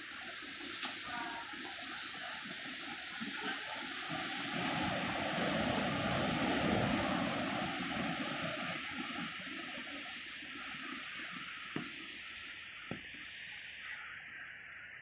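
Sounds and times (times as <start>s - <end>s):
sea waves washing onto beach: 0.0s - 13.6s.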